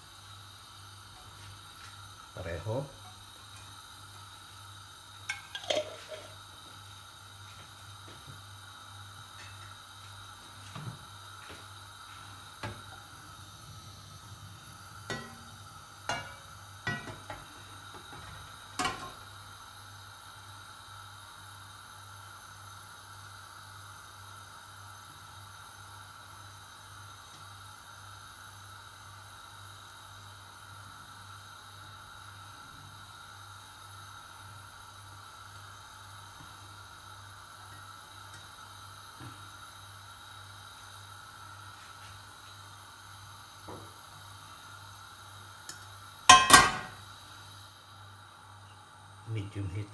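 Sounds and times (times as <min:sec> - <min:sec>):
oil hissing in a frying pan: 0:00.0 - 0:49.9.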